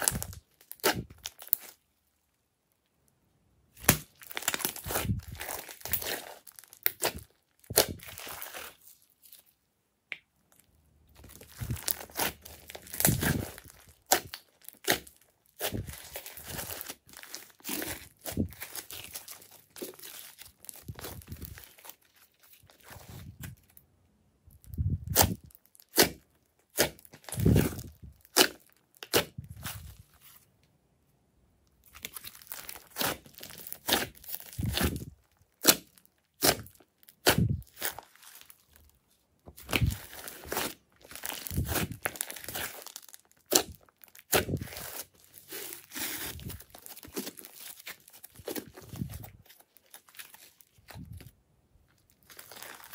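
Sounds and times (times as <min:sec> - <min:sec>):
sticky slime crackles: 0:00.0 - 0:01.8, 0:03.7 - 0:09.6, 0:10.5 - 0:23.8, 0:24.6 - 0:30.4, 0:31.8 - 0:52.9.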